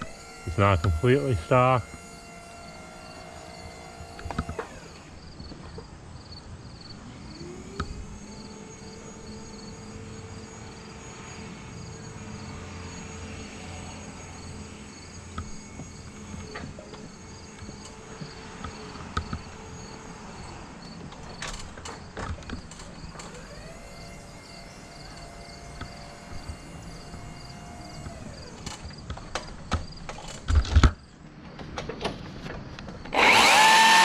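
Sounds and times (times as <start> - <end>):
motor whine: 0.0 - 5.7, 6.9 - 20.8, 22.5 - 29.4, 33.1 - 34.0.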